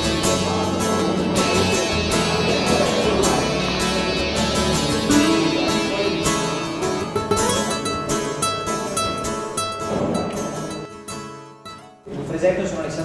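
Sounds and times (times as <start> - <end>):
plucked strings music: 0.0 - 12.1.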